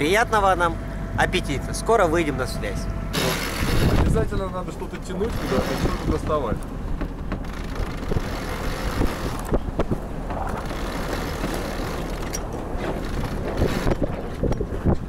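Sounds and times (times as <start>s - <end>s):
low rumble: 0.0s - 15.0s
wind noise on microphone: 2.9s - 15.0s.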